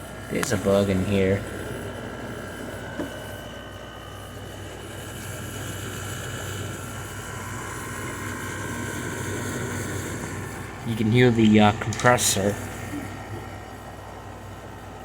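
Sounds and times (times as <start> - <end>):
air conditioner running: 0.0 - 15.0
faint high whine: 0.0 - 15.0.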